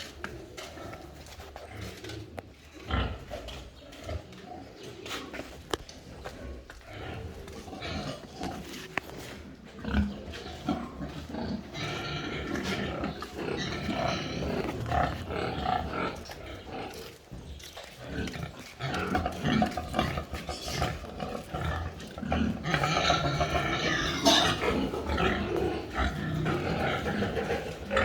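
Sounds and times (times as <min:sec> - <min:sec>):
pigs grunting and squealing: 0:00.0 - 0:28.0.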